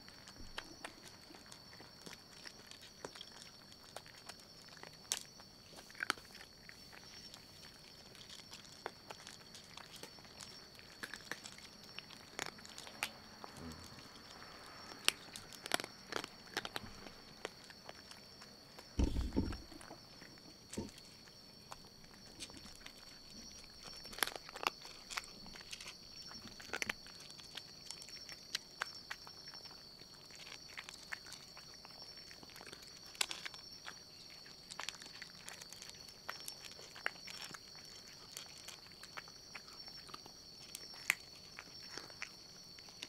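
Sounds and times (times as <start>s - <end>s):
cats chewing crunchy treats: 0.0s - 43.0s.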